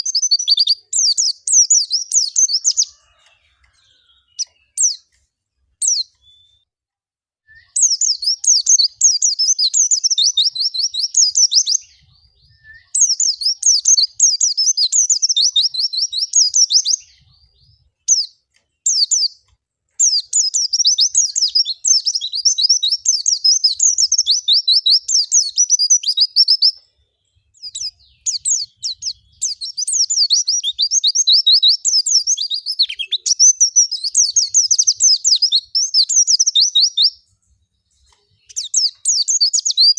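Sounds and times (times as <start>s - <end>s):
bird twittering song: 0.0s - 6.7s, 7.5s - 39.9s.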